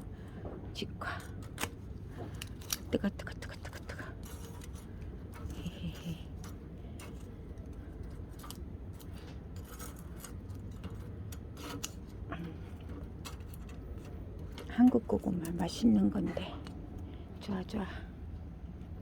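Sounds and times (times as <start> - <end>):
wood fire crackling: 0.0 - 17.8.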